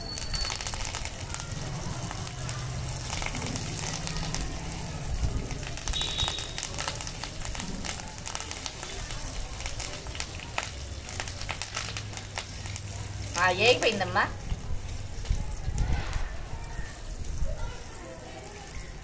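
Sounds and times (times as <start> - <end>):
tempering popping in hot oil: 0.0 - 19.0.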